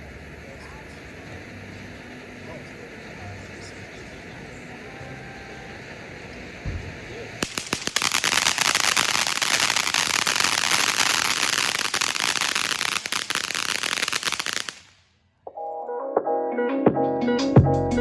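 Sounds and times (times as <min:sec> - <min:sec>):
firework fountain hissing and crackling: 0:00.0 - 0:15.0.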